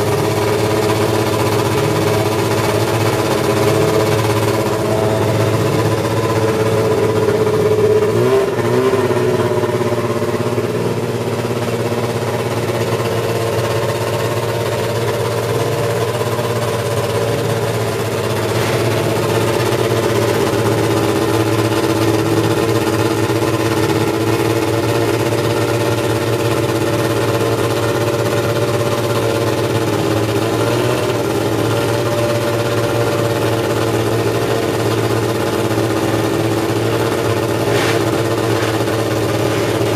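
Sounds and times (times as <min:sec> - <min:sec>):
racing car engine idling: 0:00.0 - 0:39.9.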